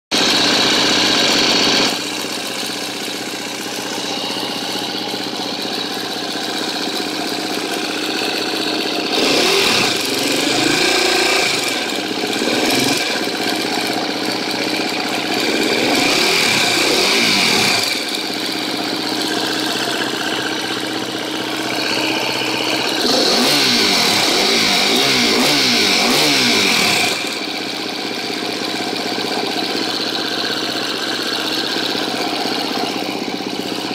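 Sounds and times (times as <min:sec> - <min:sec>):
dirt bike engine idling: 0:00.1 - 0:33.9
engine ticking at idle: 0:00.1 - 0:33.9.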